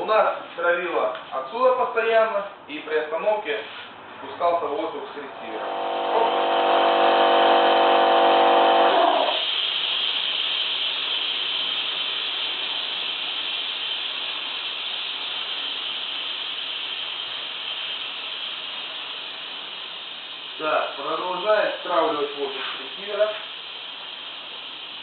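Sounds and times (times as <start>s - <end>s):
compressed air hissing: 5.0s - 25.0s.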